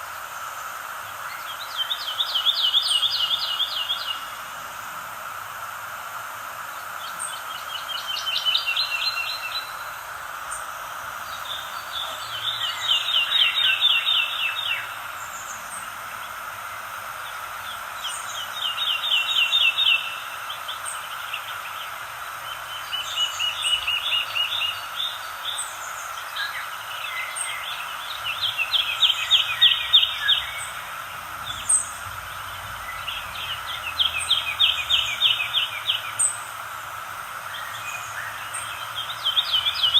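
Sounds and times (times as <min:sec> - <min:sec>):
outdoor background hiss: 0:00.0 - 0:39.9
songbird trilling: 0:01.3 - 0:04.4, 0:07.0 - 0:15.9, 0:17.3 - 0:36.6, 0:37.4 - 0:39.9.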